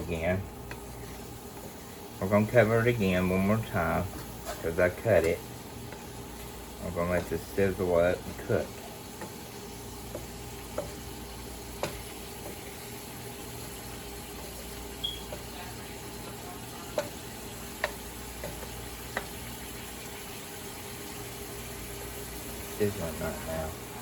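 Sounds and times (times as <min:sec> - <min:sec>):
chicken sizzling in a frying pan: 0:00.0 - 0:24.0.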